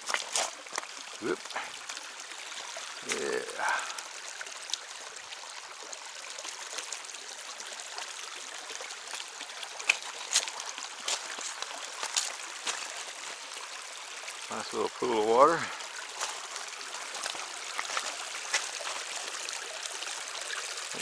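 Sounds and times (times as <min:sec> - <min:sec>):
creek running over rocks: 0:00.0 - 0:21.0.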